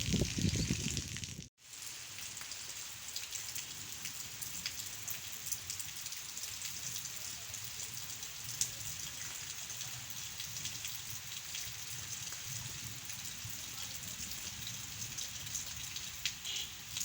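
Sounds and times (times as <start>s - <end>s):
heavy rain falling: 0.0s - 17.0s
raindrops ticking: 0.2s - 17.0s.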